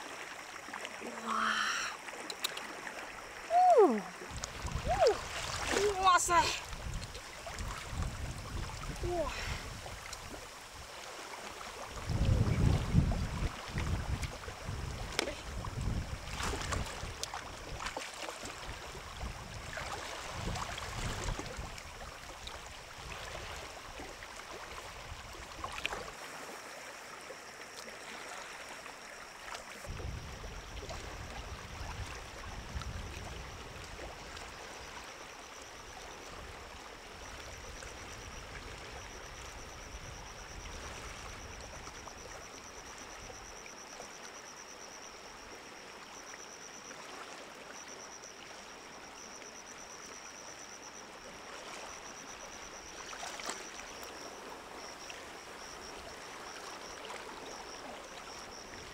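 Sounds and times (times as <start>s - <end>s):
water sloshing and trickling: 0.0s - 58.9s.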